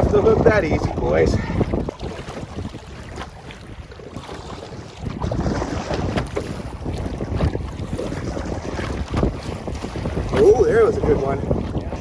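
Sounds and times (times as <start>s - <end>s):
waves splashing around canoe: 0.0s - 12.0s
wind buffeting microphone: 0.0s - 12.0s.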